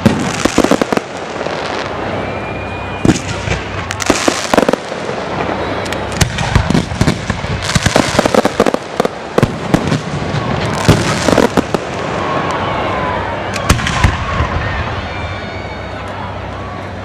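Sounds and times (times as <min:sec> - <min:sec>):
fireworks bangs and crackling: 0:00.0 - 0:16.0
steady background hiss: 0:00.0 - 0:17.0.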